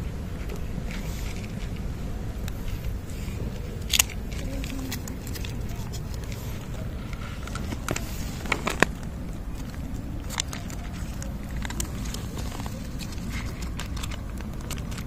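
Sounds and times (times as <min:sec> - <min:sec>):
cat crunching dry kibble: 0:00.0 - 0:15.0
steady low rumble: 0:00.0 - 0:15.0.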